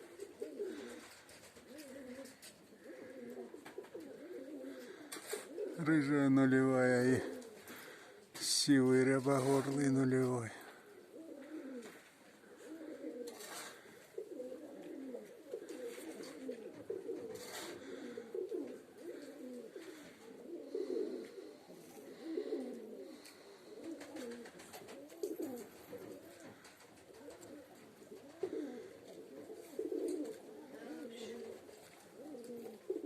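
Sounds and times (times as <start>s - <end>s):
pigeons cooing: 0.0s - 8.4s, 9.2s - 33.0s.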